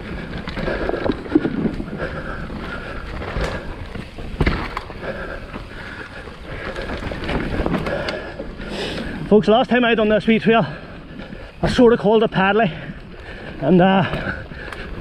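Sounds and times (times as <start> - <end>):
bike rattling: 0.0 - 15.0
bike tyres on dirt: 0.0 - 15.0.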